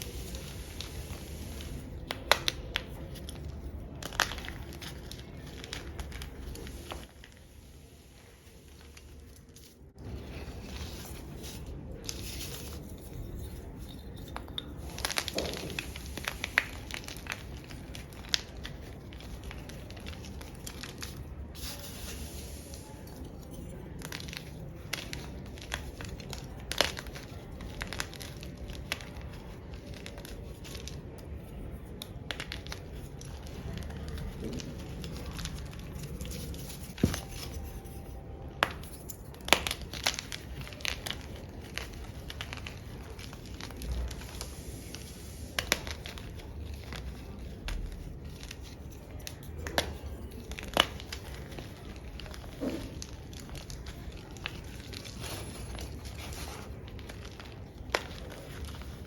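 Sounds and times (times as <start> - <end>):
chalk chunks being crushed: 0.0 - 59.0.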